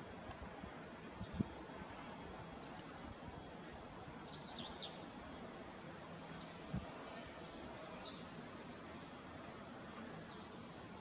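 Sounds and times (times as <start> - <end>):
outdoor background hiss: 0.0 - 11.0
birds chirping: 0.8 - 11.0.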